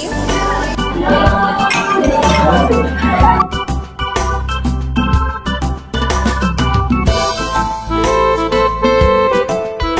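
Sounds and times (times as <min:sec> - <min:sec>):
keyboard and drums music: 0:00.0 - 0:09.9.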